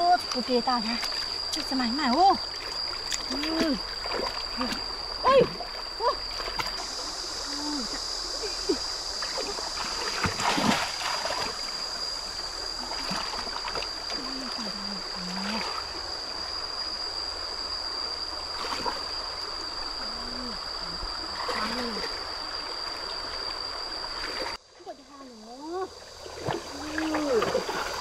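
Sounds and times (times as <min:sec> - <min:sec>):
stream water flowing: 0:00.0 - 0:28.0.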